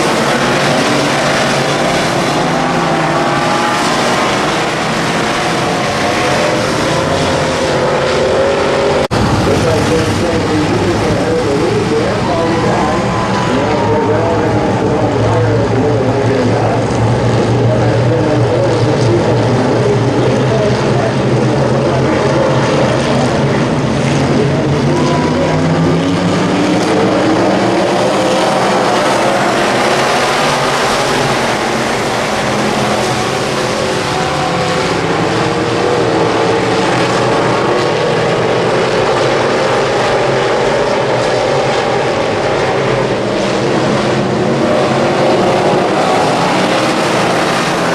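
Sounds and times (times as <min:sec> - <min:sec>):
race car engines roaring: 0:00.0 - 0:47.9.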